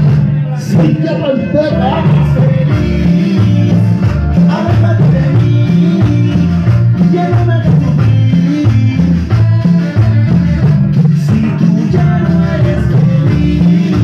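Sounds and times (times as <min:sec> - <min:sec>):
loud latin dance music: 0:00.0 - 0:14.0
person singing: 0:00.0 - 0:14.0.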